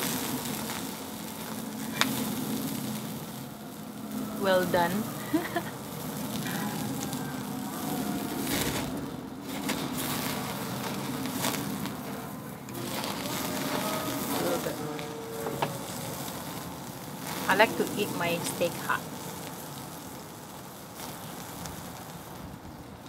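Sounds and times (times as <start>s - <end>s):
fat crackling in flames: 0.0s - 23.0s
steak sizzling on a grill: 0.0s - 23.0s.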